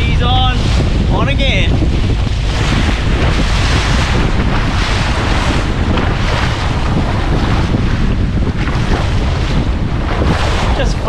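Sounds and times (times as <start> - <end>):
strong wind buffeting microphone: 0.0 - 11.0
water and waves: 0.0 - 11.0.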